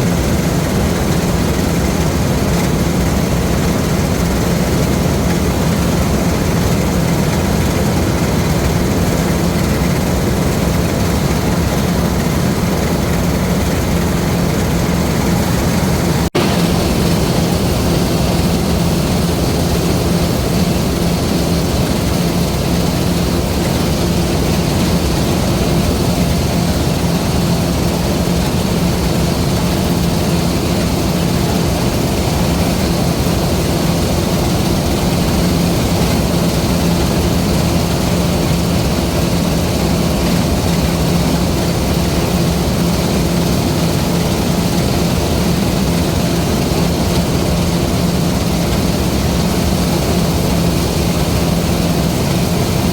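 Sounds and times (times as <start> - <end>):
combine harvester engine drone: 0.0 - 52.9.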